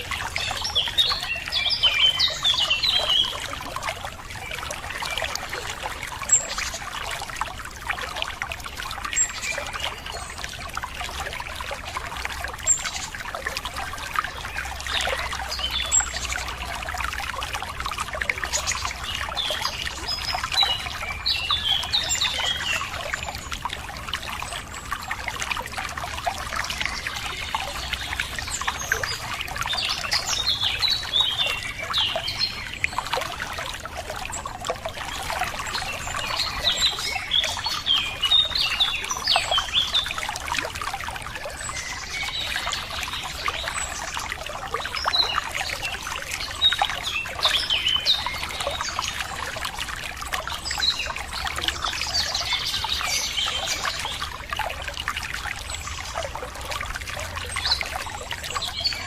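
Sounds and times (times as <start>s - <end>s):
running water trickling: 0.0s - 59.0s
songbirds chirping: 0.0s - 59.0s.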